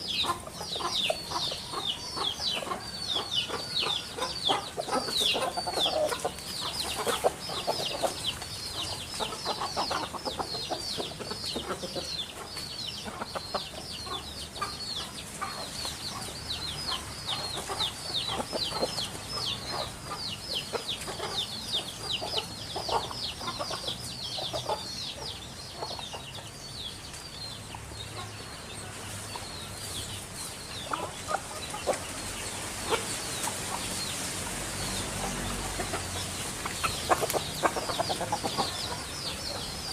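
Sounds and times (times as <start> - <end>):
birds chirping: 0.0 - 39.9
birds clucking: 0.0 - 39.9.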